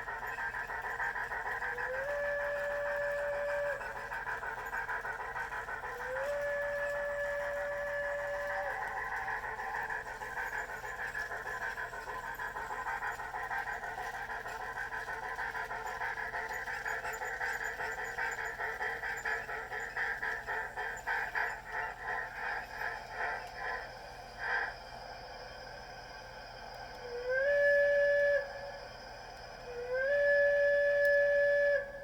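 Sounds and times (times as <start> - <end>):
steady steam hiss: 0.0 - 32.0
steam locomotive exhaust chuffs: 0.0 - 32.0.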